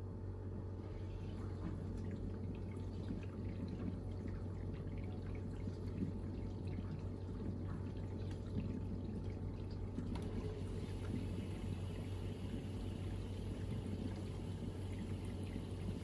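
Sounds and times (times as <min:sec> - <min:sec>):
dishwasher pump hum: 0:00.0 - 0:16.0.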